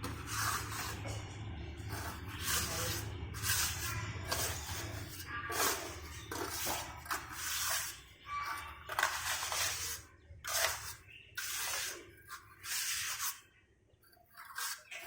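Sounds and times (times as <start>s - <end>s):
scraping strokes: 0.0s - 13.5s, 14.1s - 15.0s.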